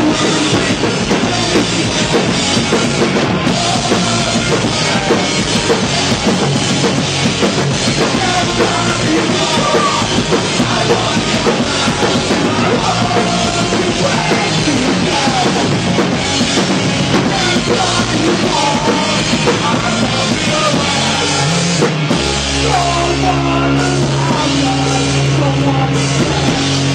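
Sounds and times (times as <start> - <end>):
drum kit beat: 0.0 - 26.9
electric guitars: 0.0 - 26.9
pop-punk band playing live: 0.0 - 26.9.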